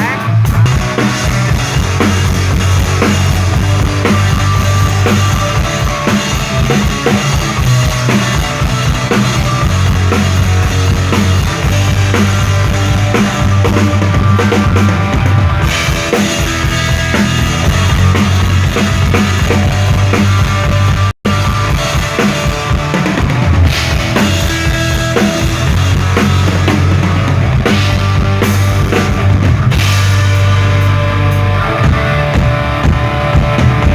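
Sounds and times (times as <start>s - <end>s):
bass drum and snare: 0.0s - 33.9s
heavy bass line: 0.0s - 33.9s
rock band playing live: 0.0s - 33.9s.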